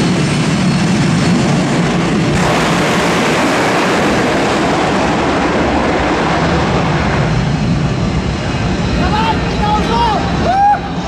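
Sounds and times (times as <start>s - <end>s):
racing car engines roaring: 0.0s - 11.0s.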